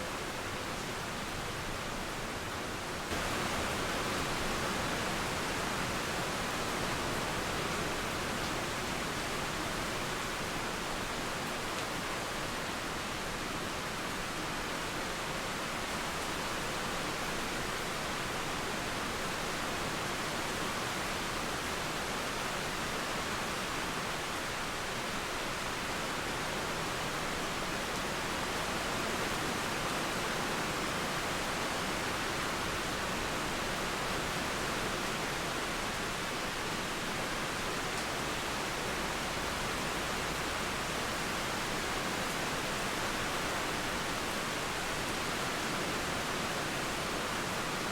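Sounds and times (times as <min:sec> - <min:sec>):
steady rain: 0:00.0 - 0:47.9.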